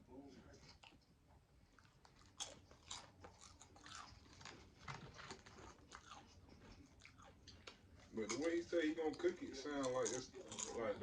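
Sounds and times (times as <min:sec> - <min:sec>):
person chewing crunchy food: 0:01.7 - 0:11.0.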